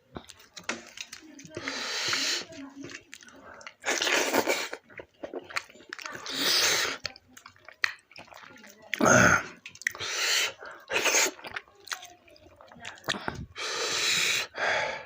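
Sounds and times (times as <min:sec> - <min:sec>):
wet chewing and lip smacks: 0:00.1 - 0:13.6.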